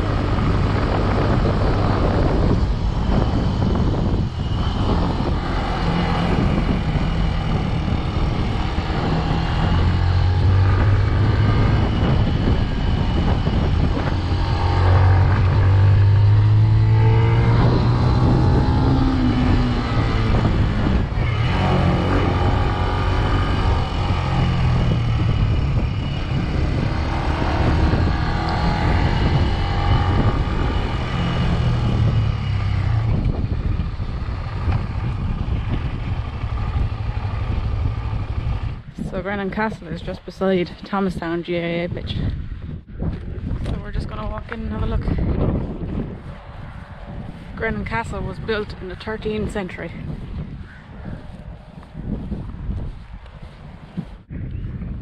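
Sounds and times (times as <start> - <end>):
motorcycle engine running: 0.0 - 55.0
wind rushing on microphone: 0.0 - 55.0.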